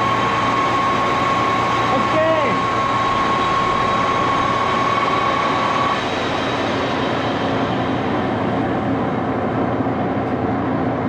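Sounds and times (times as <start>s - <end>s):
high whine: 0.0s - 11.0s
lathe gear drive running: 0.0s - 11.0s.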